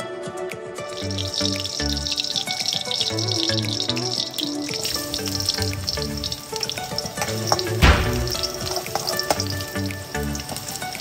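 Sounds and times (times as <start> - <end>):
background music with bass line: 0.0 - 11.0
oil frying and sizzling in a wok: 0.8 - 11.0.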